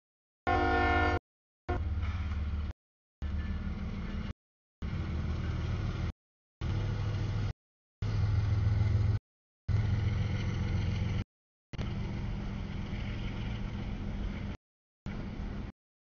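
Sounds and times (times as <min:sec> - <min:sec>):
freight train rumbling and rattling: 0:01.7 - 0:11.2, 0:11.8 - 0:15.7.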